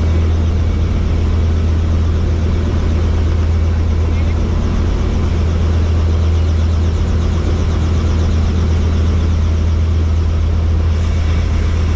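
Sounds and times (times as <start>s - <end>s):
helicopter engine and rotor: 0.0s - 11.9s.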